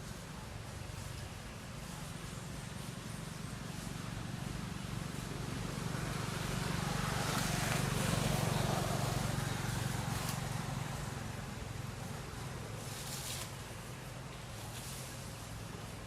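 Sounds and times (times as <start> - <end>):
road vehicle passing by: 0.9 - 16.0.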